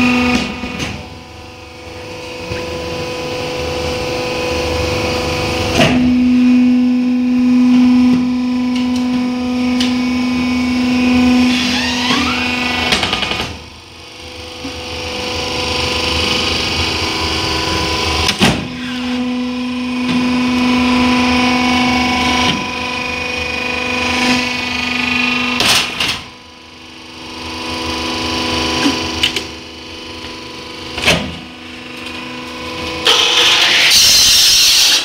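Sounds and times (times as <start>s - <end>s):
extruder machine humming: 0.0s - 35.0s.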